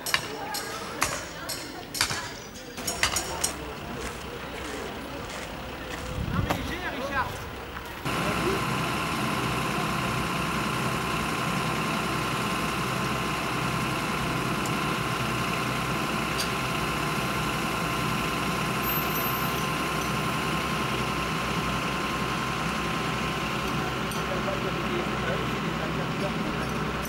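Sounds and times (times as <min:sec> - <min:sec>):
lorry engine running: 0:00.0 - 0:27.0.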